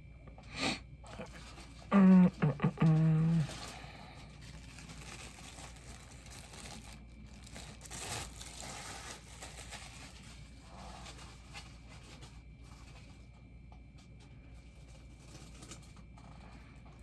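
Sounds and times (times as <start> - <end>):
packaging crinkling and rustling: 1.1 - 13.4, 14.6 - 17.0.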